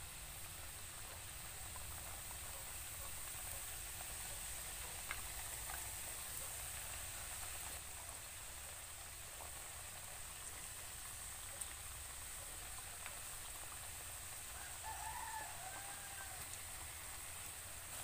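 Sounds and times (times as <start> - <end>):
strips frying in hot oil: 0.0 - 18.0.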